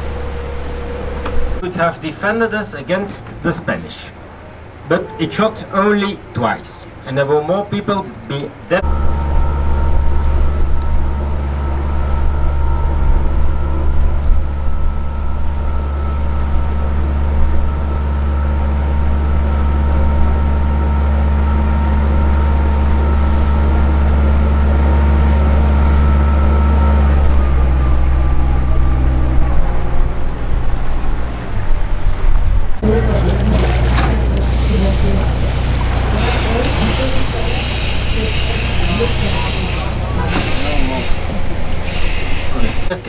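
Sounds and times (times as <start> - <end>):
boat motor humming: 0.0 - 43.0
faint whine: 0.0 - 43.0.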